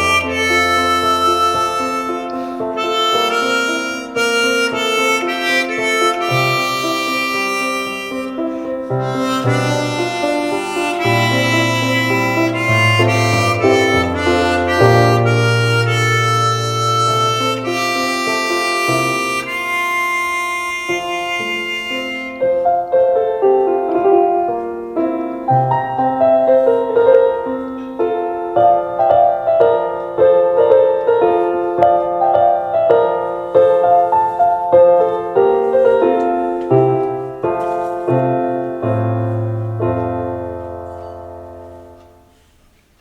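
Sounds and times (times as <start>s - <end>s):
harmonica note: 0.0s - 41.3s
piano melody: 0.0s - 43.0s.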